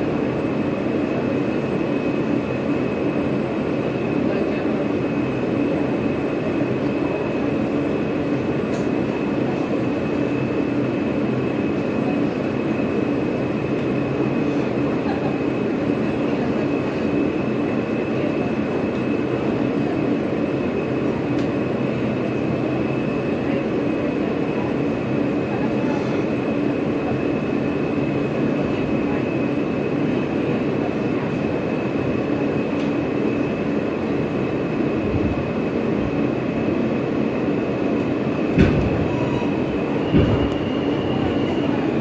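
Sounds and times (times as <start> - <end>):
subway car rolling noise: 0.0 - 42.0.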